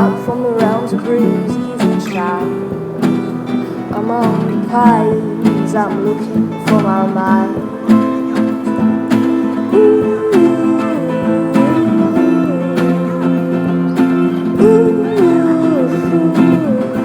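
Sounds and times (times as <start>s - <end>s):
acoustic guitar strumming: 0.0s - 17.0s
sliding lead melody: 0.0s - 17.0s.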